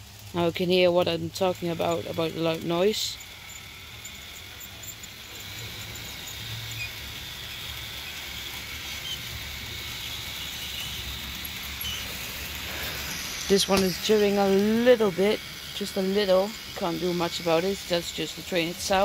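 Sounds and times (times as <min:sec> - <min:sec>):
model locomotive running hum: 0:00.0 - 0:19.0.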